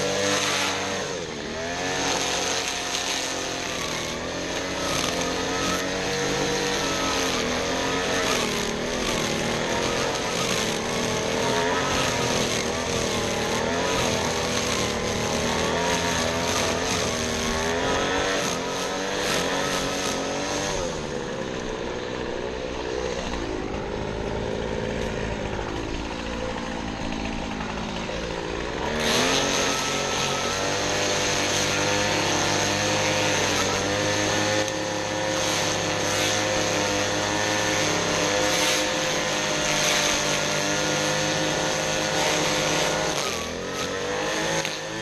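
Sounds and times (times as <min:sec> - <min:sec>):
small gasoline engine running: 0:00.0 - 0:45.0.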